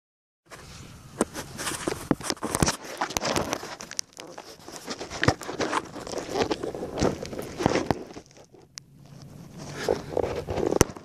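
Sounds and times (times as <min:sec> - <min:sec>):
rustling of dry grass and roots: 0:00.5 - 0:11.0.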